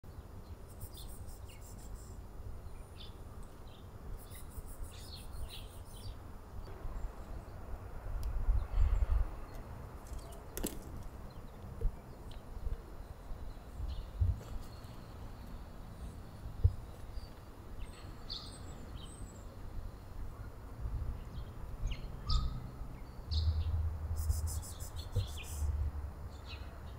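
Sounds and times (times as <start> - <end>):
small birds chirping: 0.1 - 6.3, 8.6 - 20.6, 21.2 - 26.9.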